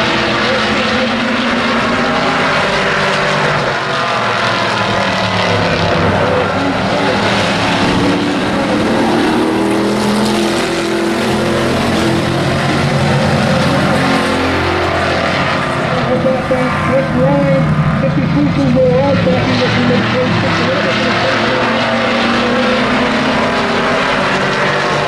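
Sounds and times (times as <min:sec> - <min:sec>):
model race truck engines: 0:00.0 - 0:25.0.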